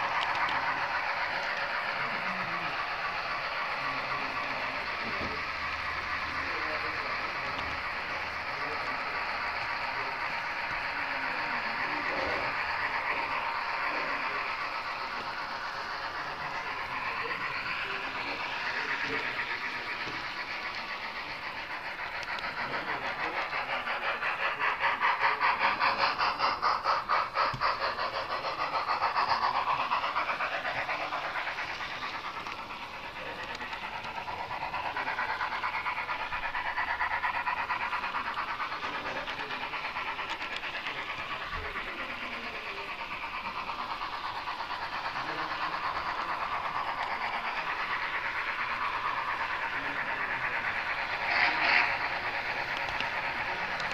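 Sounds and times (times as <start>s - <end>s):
model train clattering: 0.0s - 53.9s.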